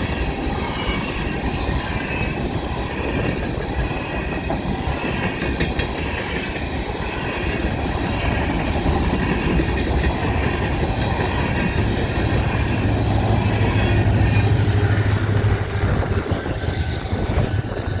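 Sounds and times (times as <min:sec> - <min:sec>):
train cars rolling on rails: 0:00.0 - 0:18.0
train wheels squealing: 0:00.0 - 0:18.0
wheels clicking over track: 0:01.6 - 0:18.0.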